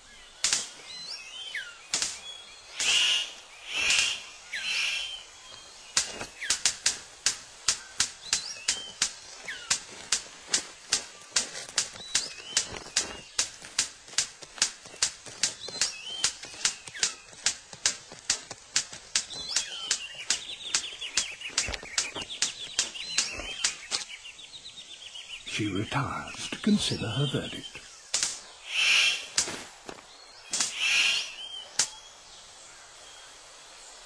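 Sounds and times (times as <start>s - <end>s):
bird chirps: 0.0s - 6.8s, 7.5s - 13.8s, 14.8s - 18.2s, 18.9s - 29.4s, 30.0s - 33.4s
bird sharp clicks: 0.4s - 5.2s, 5.8s - 24.3s, 25.2s - 29.6s, 30.4s - 32.0s.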